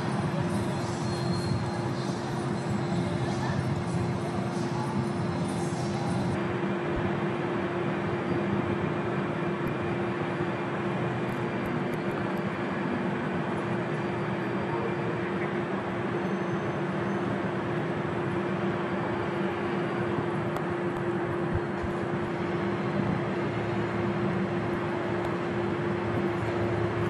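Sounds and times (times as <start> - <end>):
constant low hum: 0.0 - 27.0.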